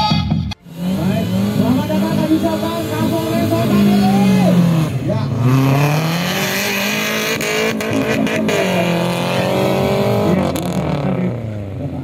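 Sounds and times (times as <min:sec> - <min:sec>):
race vehicle engine under throttle: 0:00.6 - 0:12.0.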